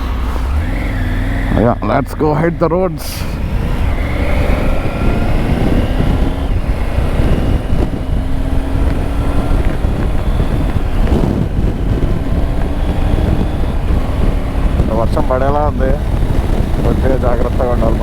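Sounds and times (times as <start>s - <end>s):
motorcycle engine drone: 0.0s - 18.0s
wind roaring over microphone: 0.0s - 18.0s.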